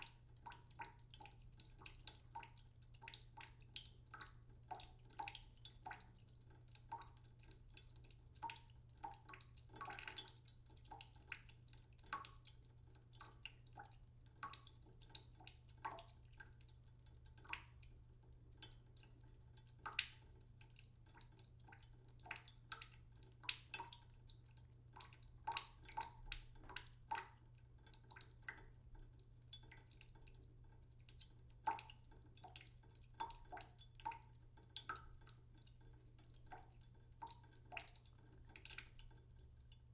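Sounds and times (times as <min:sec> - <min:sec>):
water dripping into a pot: 0:00.0 - 0:39.9.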